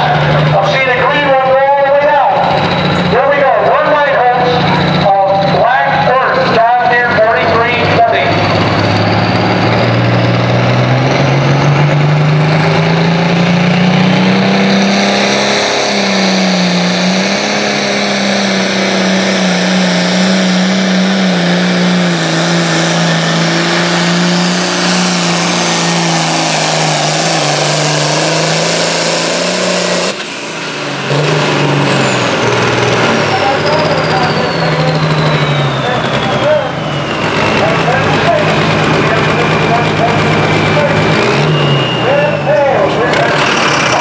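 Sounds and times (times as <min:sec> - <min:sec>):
tractor diesel engine at full throttle: 0:00.0 - 0:44.0.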